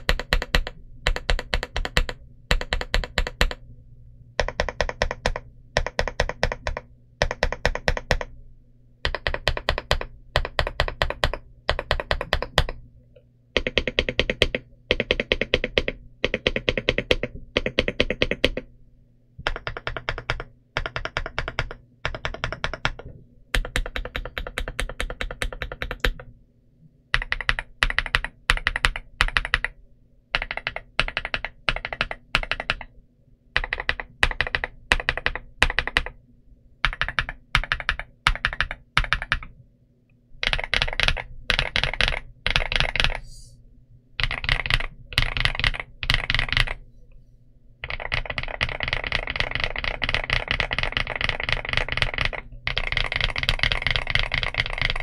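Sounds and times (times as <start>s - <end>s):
mechanical keyboard typing: 0.0s - 3.6s, 4.4s - 8.3s, 9.0s - 12.8s, 13.6s - 18.7s, 19.4s - 26.3s, 27.1s - 32.9s, 33.6s - 36.2s, 36.8s - 39.5s, 40.4s - 43.2s, 44.2s - 46.8s, 47.8s - 55.0s.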